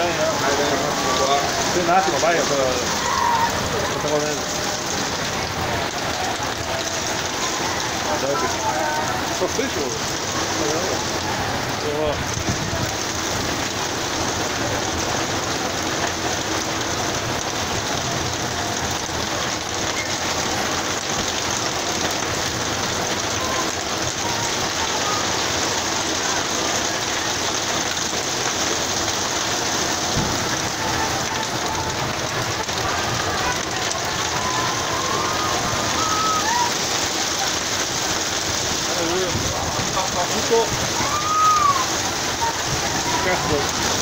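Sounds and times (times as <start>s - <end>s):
heavy rain pouring on pavement: 0.0s - 44.0s
wind: 0.0s - 44.0s.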